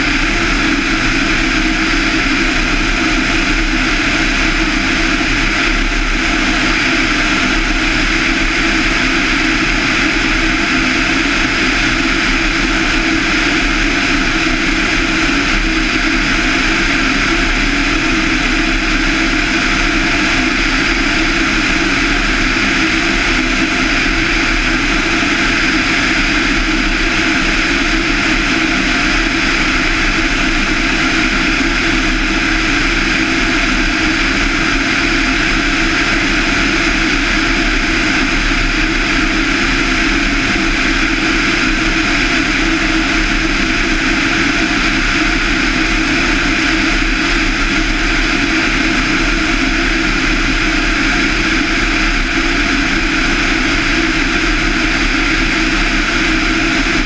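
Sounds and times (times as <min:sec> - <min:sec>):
propeller plane engine running: 0:00.0 - 0:57.0.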